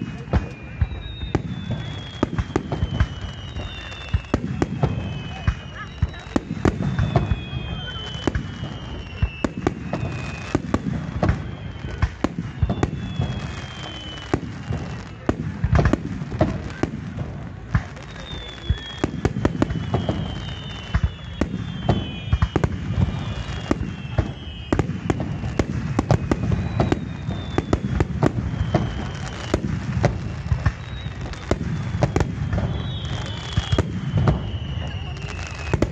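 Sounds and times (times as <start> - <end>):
falling firework whistles: 0.0 - 35.9.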